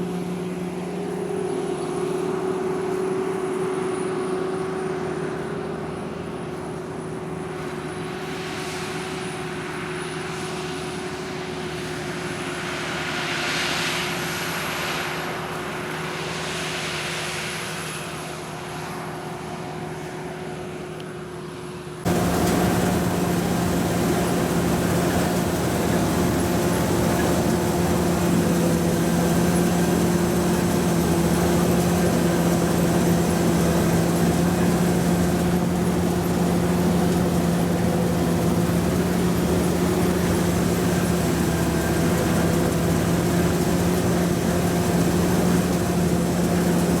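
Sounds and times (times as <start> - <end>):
combine harvester engine hum: 0.0 - 47.0.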